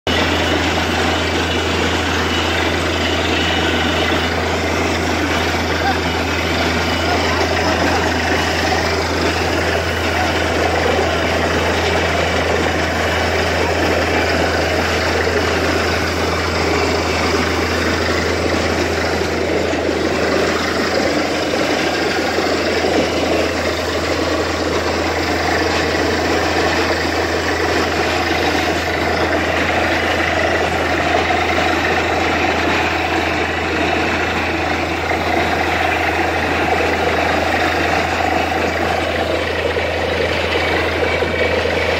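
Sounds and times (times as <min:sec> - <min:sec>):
drilling rig engine drone: 0:00.0 - 0:41.9
water gushing and splashing: 0:00.1 - 0:41.9.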